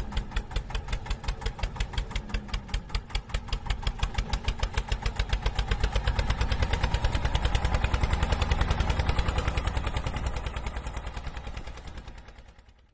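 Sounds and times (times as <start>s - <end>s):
tractor engine chugging: 0.0s - 12.9s.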